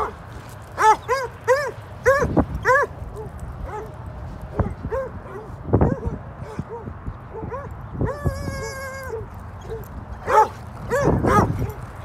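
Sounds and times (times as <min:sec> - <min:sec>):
dog yapping barks: 0:00.8 - 0:07.7, 0:09.0 - 0:11.8.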